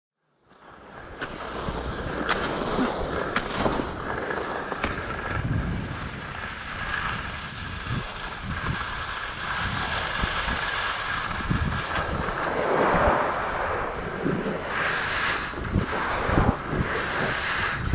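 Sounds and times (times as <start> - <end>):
skis scraping over packed snow: 0.4 - 17.9
wind rushing over microphone: 0.7 - 17.9.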